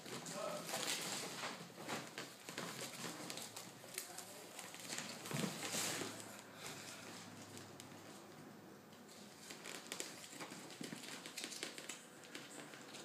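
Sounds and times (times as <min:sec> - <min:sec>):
plastic packaging crinkling: 0:00.0 - 0:07.9, 0:09.1 - 0:13.0.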